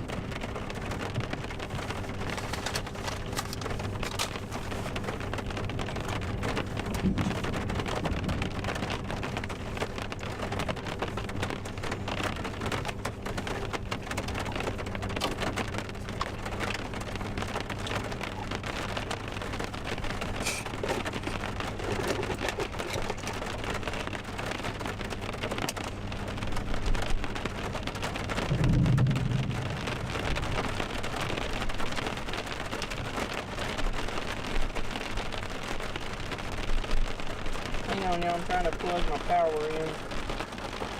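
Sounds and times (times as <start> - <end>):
faint low hum: 0.0 - 37.0
heavy rain: 0.0 - 40.9
thunder rumble: 3.0 - 40.9.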